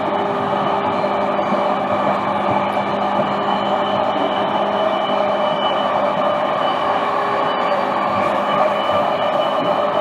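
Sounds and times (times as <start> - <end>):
electric train rolling rumble: 0.0 - 10.0
train motor whine: 0.0 - 10.0.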